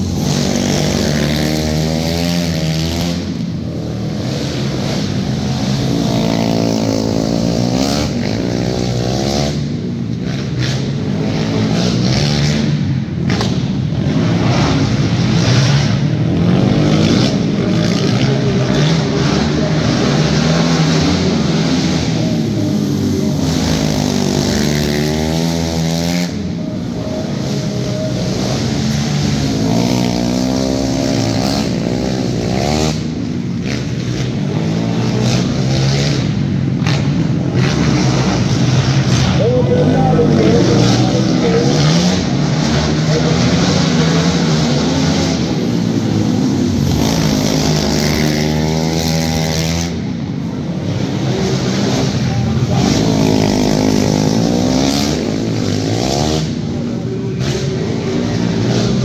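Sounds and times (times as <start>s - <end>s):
quad engines revving: 0.0s - 59.0s.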